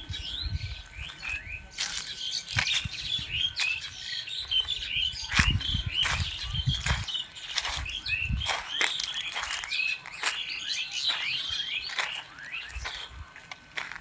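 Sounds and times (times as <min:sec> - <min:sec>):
birds chirping: 0:00.0 - 0:14.0
footsteps in forest litter: 0:00.9 - 0:14.0.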